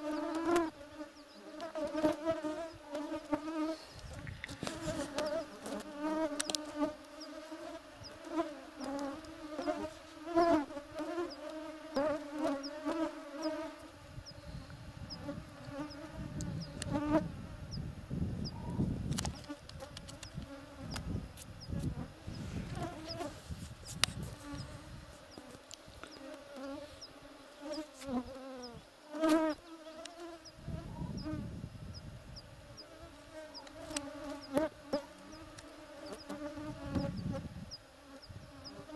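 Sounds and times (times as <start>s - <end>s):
flying insects buzzing: 0.0s - 38.9s.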